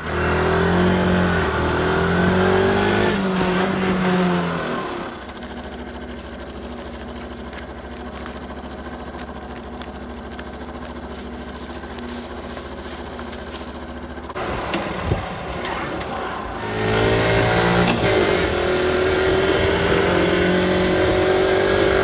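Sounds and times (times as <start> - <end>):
motorbike engine idling and revving: 0.0 - 22.0.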